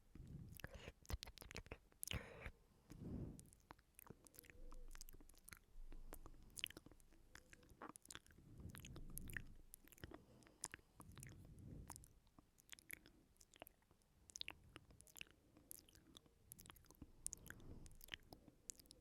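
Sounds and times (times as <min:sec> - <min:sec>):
wet lip and tongue clicks: 0:00.5 - 0:19.0.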